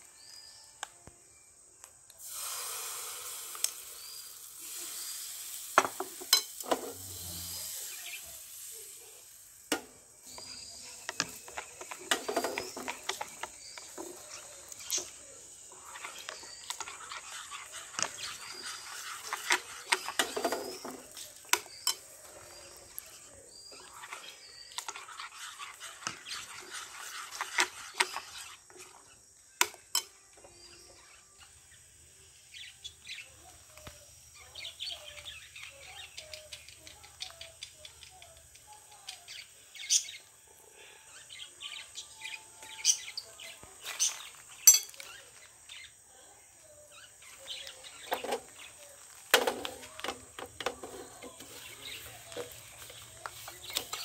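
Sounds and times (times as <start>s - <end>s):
birds chirping: 3.5s - 54.0s.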